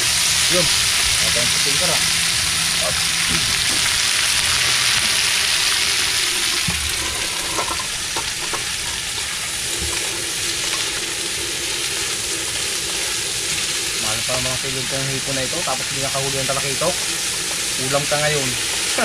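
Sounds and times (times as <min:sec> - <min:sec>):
shrimp sizzling in wok: 0:00.0 - 0:19.0.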